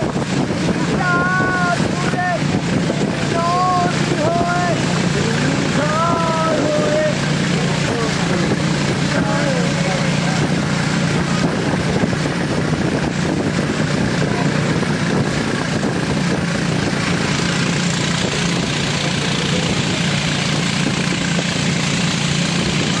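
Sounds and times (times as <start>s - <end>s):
motorboat engine droning: 0.0s - 23.0s
water rushing: 0.0s - 23.0s
wind: 0.0s - 23.0s.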